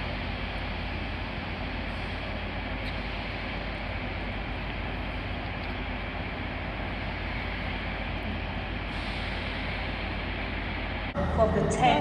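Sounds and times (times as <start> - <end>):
train engines humming: 0.0 - 12.0.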